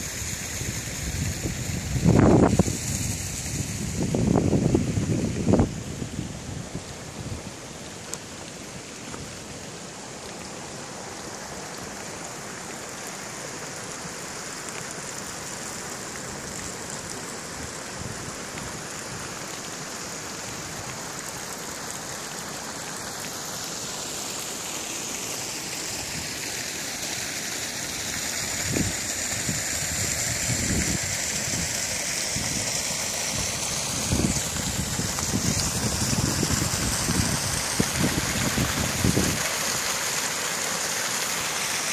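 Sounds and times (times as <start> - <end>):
water rushing over waterfall: 0.0 - 41.9.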